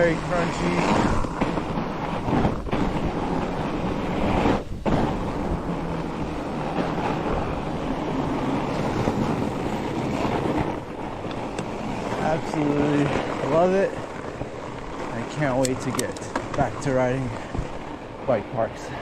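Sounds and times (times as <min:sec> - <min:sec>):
bike tyres crunching over snow: 0:00.0 - 0:19.0
wind rushing over microphone: 0:00.0 - 0:19.0.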